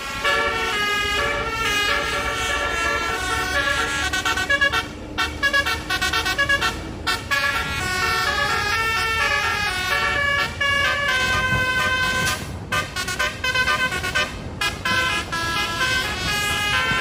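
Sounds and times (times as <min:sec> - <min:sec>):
truck horn playing a melody: 0:00.0 - 0:17.0.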